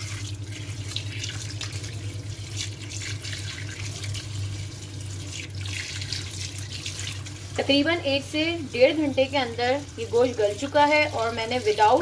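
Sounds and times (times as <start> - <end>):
steady low hum: 0.0 - 12.0
tap water running and splashing: 0.0 - 12.0.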